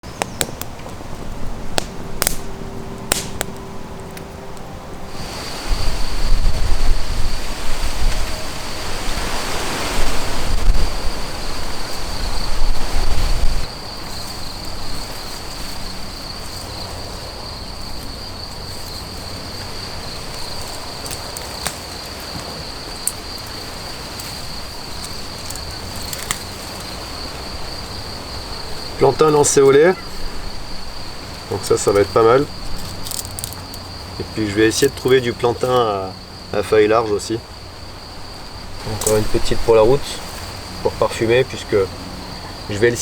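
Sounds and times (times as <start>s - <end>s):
cricket trilling: 0.0s - 43.0s.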